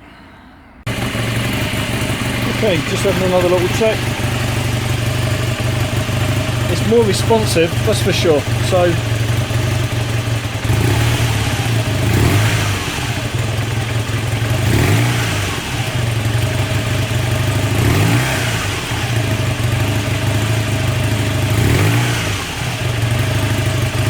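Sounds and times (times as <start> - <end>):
motorcycle engine idling and revving: 0.8 - 24.0.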